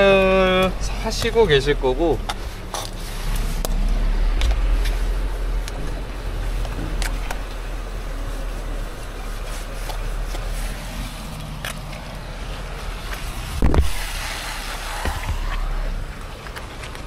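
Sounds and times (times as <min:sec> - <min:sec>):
wind rumbling on microphone: 0:02.2 - 0:16.8.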